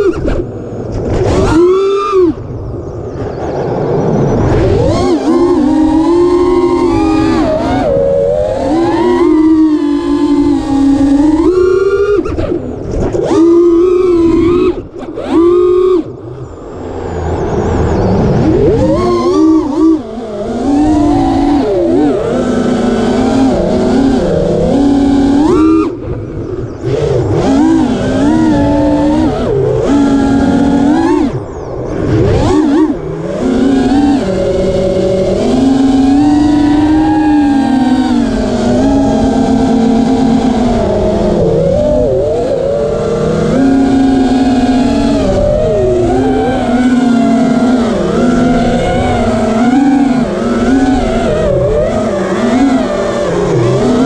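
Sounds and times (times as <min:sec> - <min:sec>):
drone motors whining: 0:00.0 - 0:54.0
wind rushing over microphone: 0:00.0 - 0:54.0.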